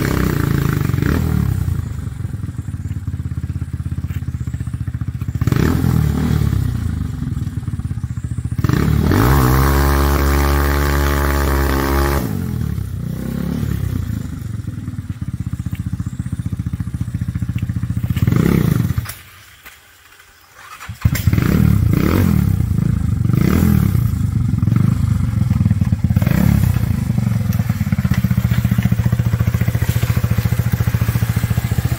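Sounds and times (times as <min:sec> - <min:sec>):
go-kart engine revving: 0:00.0 - 0:03.7, 0:04.9 - 0:14.9, 0:16.1 - 0:19.2, 0:20.6 - 0:31.9.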